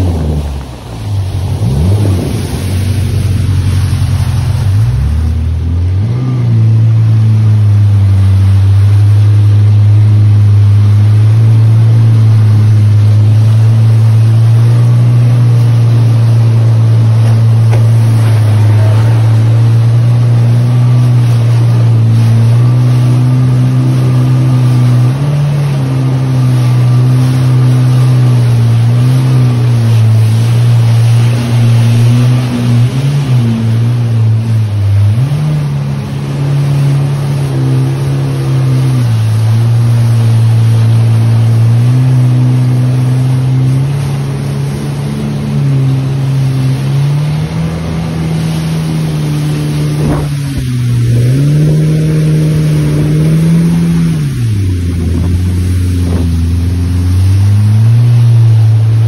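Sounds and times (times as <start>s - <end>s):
jet ski engine running: 0.0s - 59.0s
water rushing: 0.0s - 59.0s.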